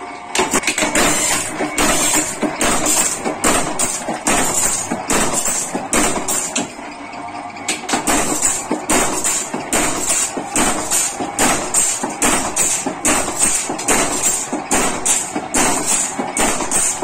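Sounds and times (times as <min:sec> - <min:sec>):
power press metallic clanks: 0:00.3 - 0:06.9, 0:07.7 - 0:17.0.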